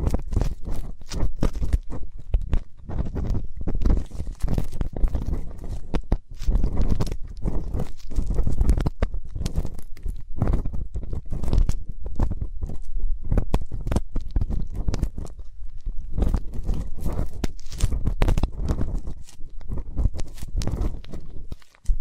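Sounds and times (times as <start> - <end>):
ear pick scraping: 0.0 - 22.0.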